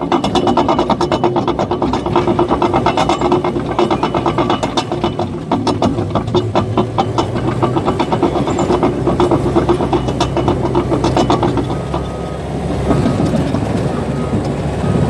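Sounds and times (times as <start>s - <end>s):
diesel engine drone: 0.0s - 15.0s
steel tracks clanking: 0.0s - 15.0s.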